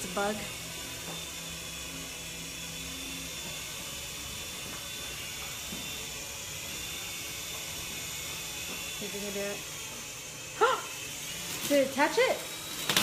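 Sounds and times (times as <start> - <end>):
toy helicopter motor whining: 0.0 - 13.0.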